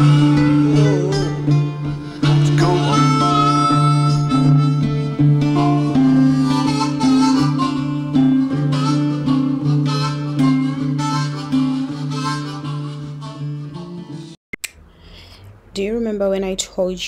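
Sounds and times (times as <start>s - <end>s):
guitar: 0.0s - 14.4s
harmonica melody: 0.0s - 14.4s.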